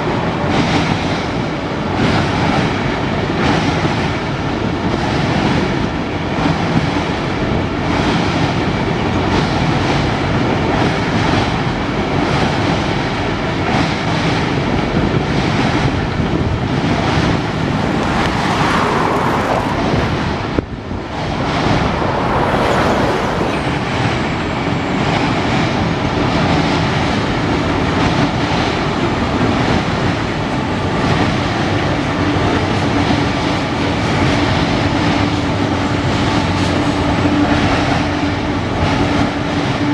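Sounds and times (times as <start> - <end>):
train engine drone: 0.0 - 39.9.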